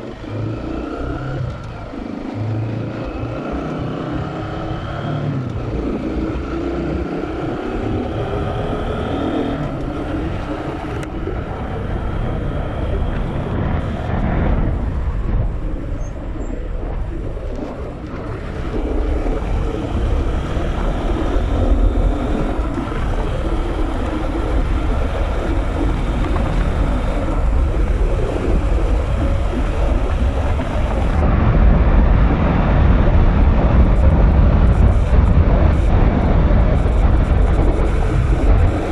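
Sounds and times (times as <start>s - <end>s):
motorcycle engine revving: 0.0s - 38.9s
wind buffeting microphone: 0.0s - 38.9s.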